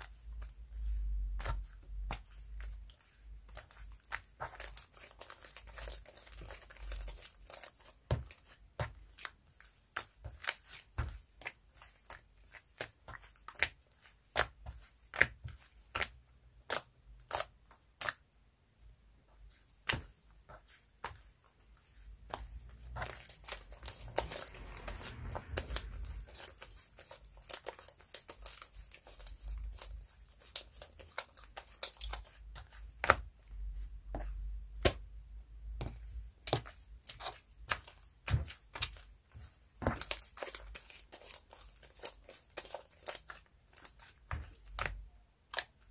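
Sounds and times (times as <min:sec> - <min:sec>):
hands squeezing sticky slime: 0:00.0 - 0:18.2, 0:19.5 - 0:45.9
slime crackling: 0:00.0 - 0:18.3, 0:19.4 - 0:45.9.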